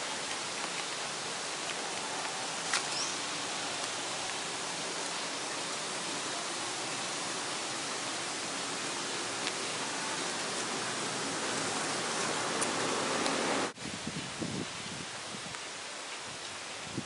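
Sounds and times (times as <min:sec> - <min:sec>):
steady even hiss: 0:00.0 - 0:17.0.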